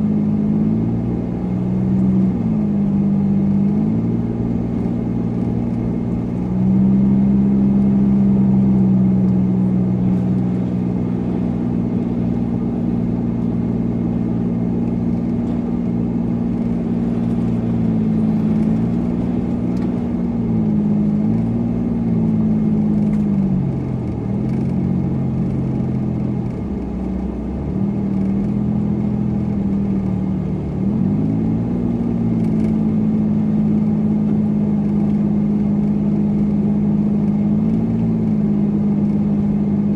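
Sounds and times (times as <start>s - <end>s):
car engine while driving: 0.0s - 39.9s
road noise: 0.0s - 39.9s.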